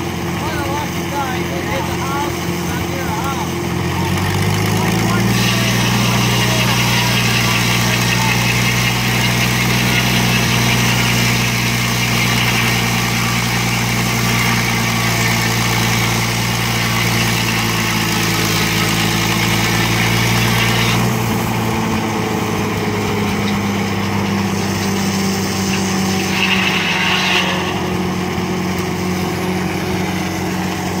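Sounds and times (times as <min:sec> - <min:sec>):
sawmill engine running: 0:00.0 - 0:31.0.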